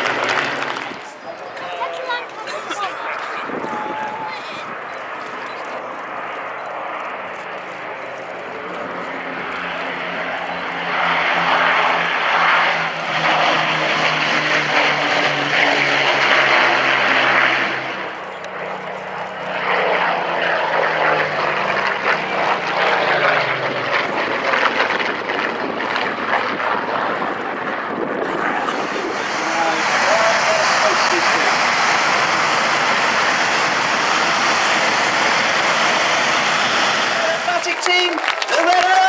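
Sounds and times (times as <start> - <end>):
piston aircraft engines droning: 0.0 - 39.0.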